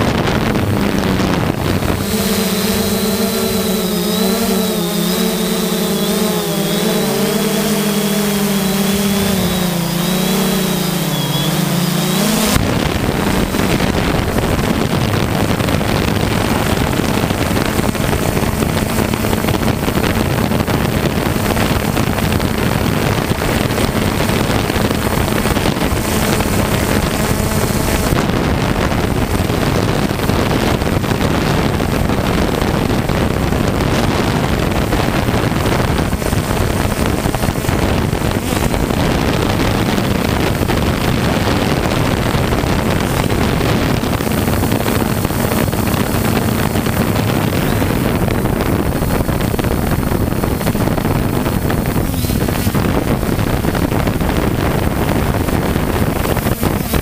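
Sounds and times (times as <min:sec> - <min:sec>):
drone propellers humming: 0:00.0 - 0:57.0
wind on microphone: 0:00.0 - 0:57.0.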